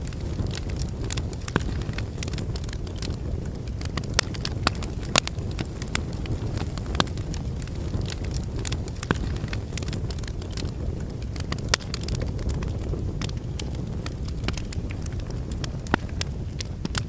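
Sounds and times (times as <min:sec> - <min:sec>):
burning wood crackling and popping: 0:00.0 - 0:17.0
fire rumbling: 0:00.0 - 0:17.0.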